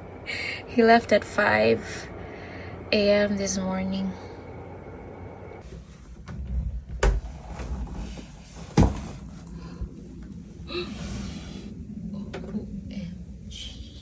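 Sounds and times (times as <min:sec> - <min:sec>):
low rumbling: 0:00.0 - 0:14.0.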